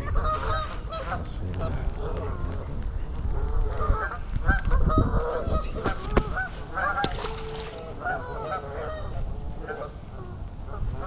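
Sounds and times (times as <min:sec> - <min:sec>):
geese calling: 0:00.0 - 0:02.6, 0:03.3 - 0:11.0.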